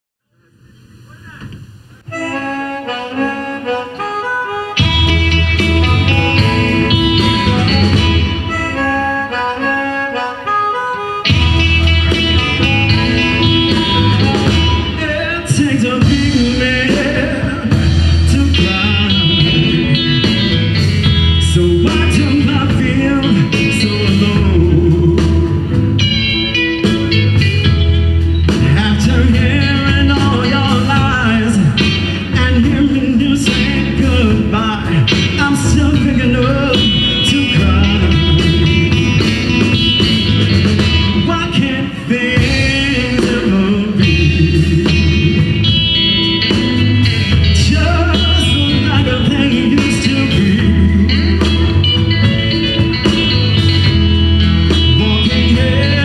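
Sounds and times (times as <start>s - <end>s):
keyboard: 0.3s - 56.0s
bass: 0.4s - 56.0s
electric guitar: 0.6s - 56.0s
amplified harmonica: 2.0s - 32.9s, 33.6s - 56.0s
drums with steady beat: 4.8s - 9.4s, 11.2s - 56.0s.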